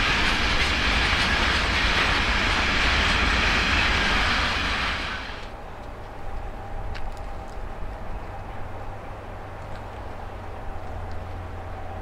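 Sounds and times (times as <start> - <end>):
distant train rumbling: 0.0 - 12.0.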